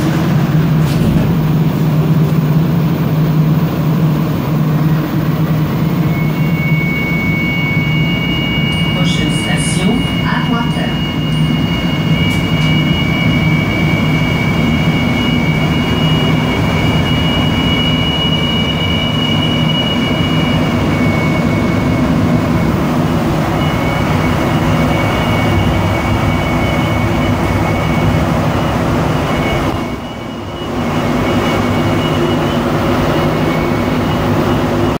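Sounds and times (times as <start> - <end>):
train running rumble: 0.0 - 35.0
high-pitched two-tone whine: 1.5 - 35.0.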